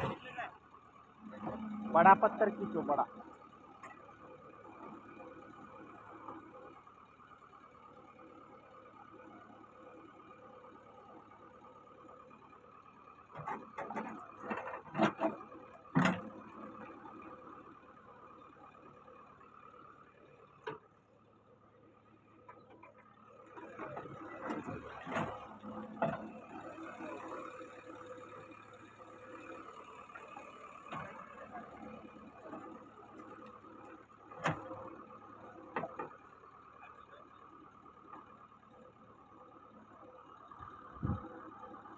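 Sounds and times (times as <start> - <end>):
diesel engine humming: 0.0 - 41.9.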